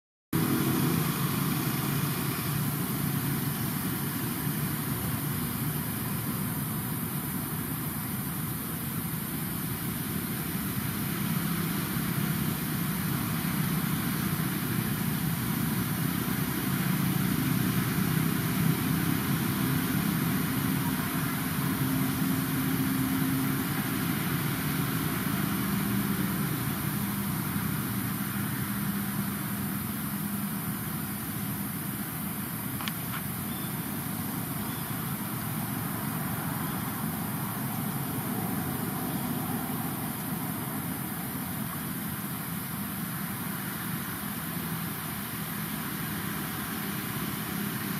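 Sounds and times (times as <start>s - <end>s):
engine droning: 0.4s - 47.9s
high hiss: 0.4s - 47.9s.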